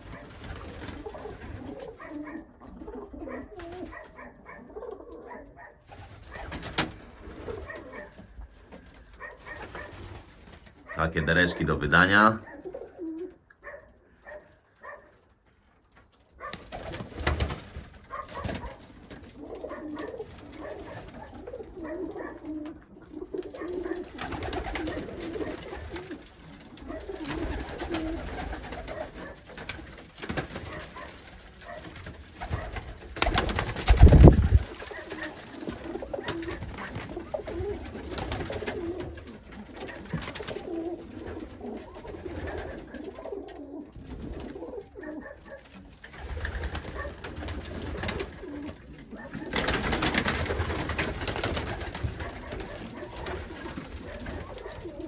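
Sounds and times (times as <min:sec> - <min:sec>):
pigeons cooing: 0:00.0 - 0:15.1, 0:16.4 - 0:55.0.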